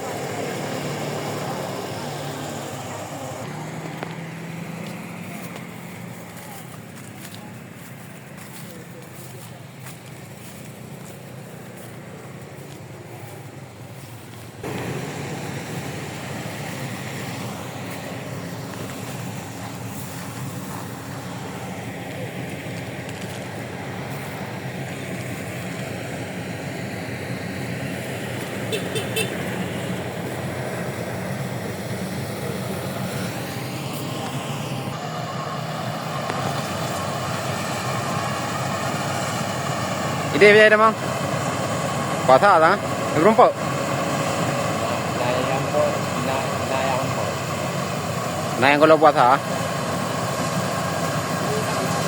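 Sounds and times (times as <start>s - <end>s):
harvester engine running: 0.0s - 52.0s.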